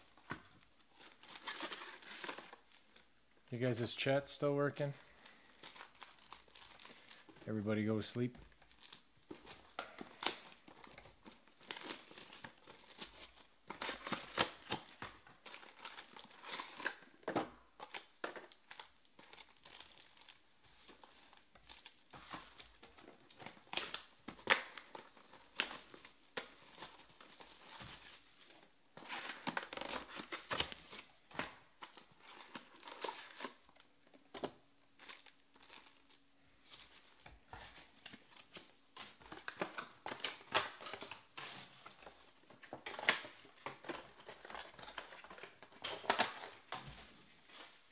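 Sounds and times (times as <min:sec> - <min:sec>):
plastic and foil crinkling: 0:00.0 - 0:03.1, 0:04.8 - 0:47.9.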